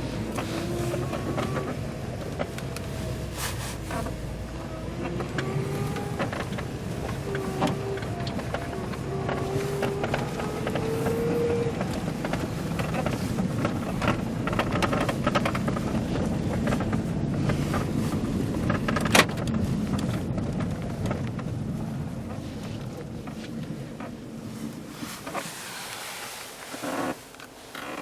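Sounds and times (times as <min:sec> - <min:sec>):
vehicle running rumble: 0:00.0 - 0:28.0.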